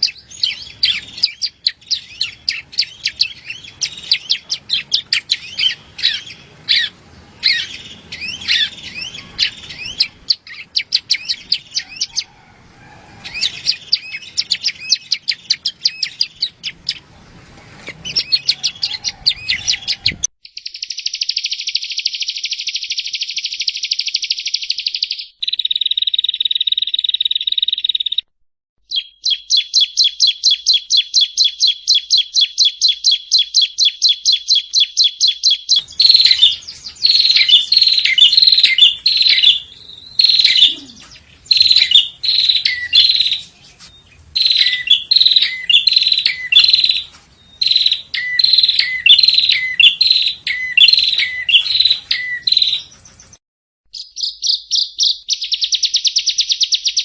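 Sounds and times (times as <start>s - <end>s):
bird trilling: 0.0s - 17.1s, 17.9s - 28.2s, 28.9s - 53.4s, 54.0s - 57.0s
bird chirping: 0.0s - 57.0s.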